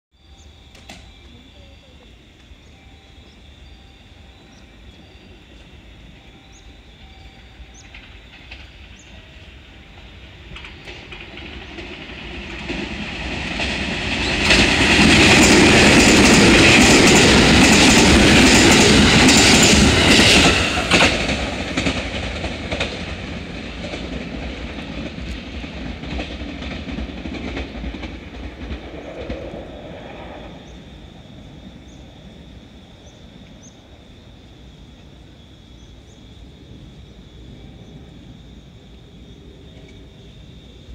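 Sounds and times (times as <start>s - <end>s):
electric train passing: 0.2s - 40.9s.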